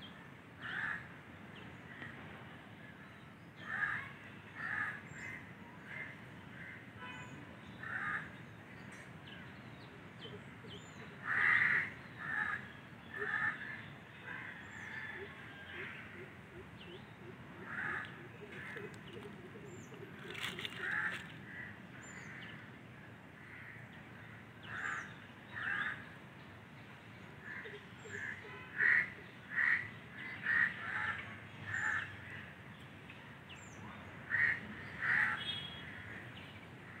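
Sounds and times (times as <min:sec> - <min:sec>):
birds harsh calls: 0:00.6 - 0:01.1, 0:03.6 - 0:22.7, 0:23.4 - 0:26.2, 0:27.4 - 0:32.6, 0:33.5 - 0:37.0.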